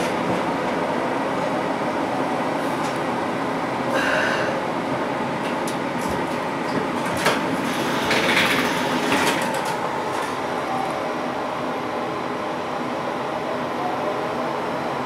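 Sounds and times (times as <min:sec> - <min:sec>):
light rail car rumble: 0:00.0 - 0:15.0.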